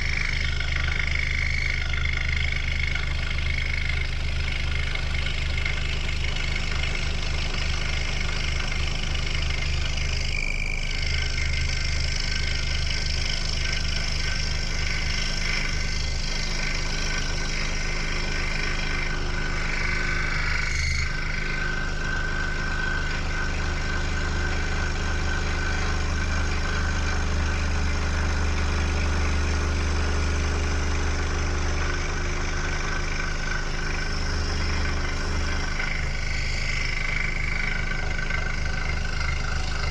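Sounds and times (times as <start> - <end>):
electric scroll saw running: 0.0 - 39.9.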